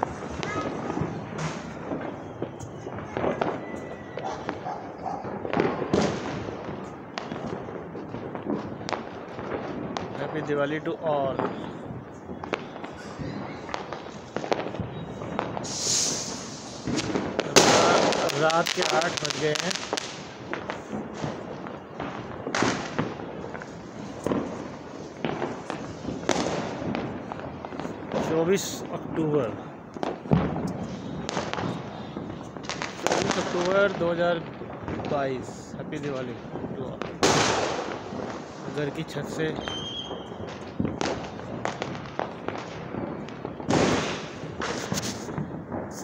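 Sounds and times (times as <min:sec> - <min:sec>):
distant firecracker rumble and crackle: 0:00.0 - 0:46.0
firecracker bangs: 0:00.0 - 0:46.0.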